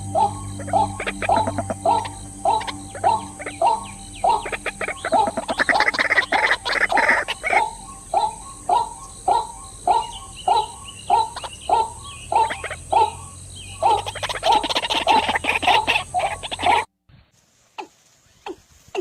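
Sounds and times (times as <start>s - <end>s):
bird calling: 0.0s - 16.9s.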